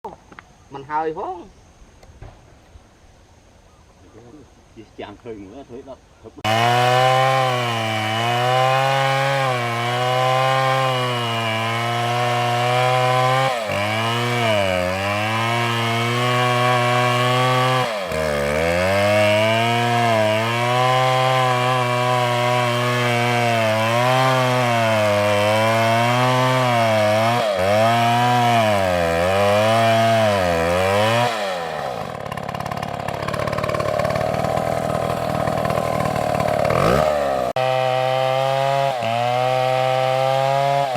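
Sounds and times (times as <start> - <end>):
chainsaw cutting wood: 6.4 - 40.9.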